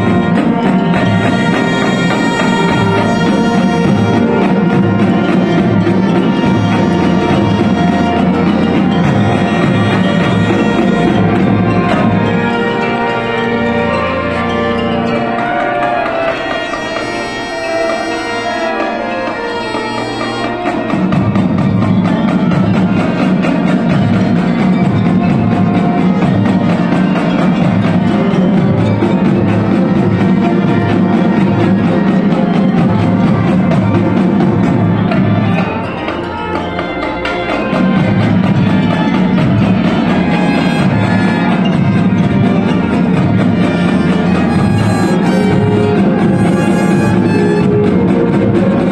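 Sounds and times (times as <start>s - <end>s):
marching band playing: 0.0s - 48.9s.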